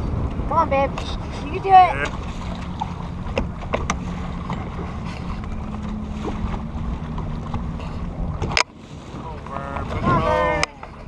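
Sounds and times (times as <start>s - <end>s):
boat engine idling: 0.0s - 11.0s
wind buffeting microphone: 0.0s - 11.0s.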